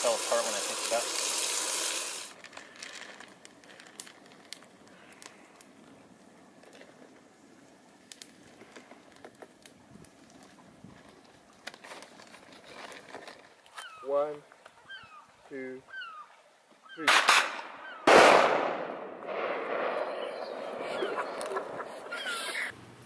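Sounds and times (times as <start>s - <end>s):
campfire crackling and popping: 0.0s - 15.4s, 16.6s - 22.7s.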